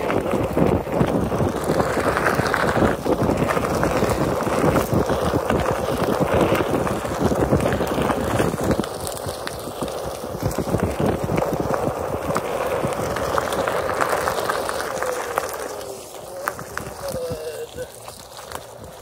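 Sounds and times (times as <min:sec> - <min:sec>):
tire crunching over gravel: 0:00.0 - 0:19.0.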